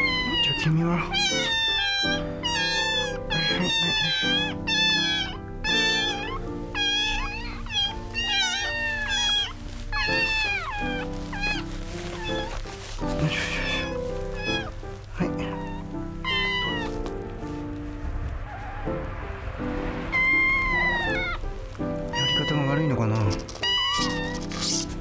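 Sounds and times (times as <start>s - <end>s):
kittens meowing shrilly: 0.0s - 17.2s, 19.9s - 25.0s
background music: 0.0s - 25.0s.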